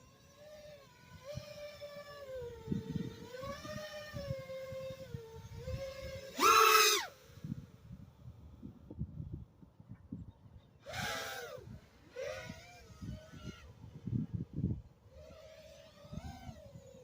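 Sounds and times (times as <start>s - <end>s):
quadcopter motors whining: 0.0s - 9.3s, 10.0s - 17.0s.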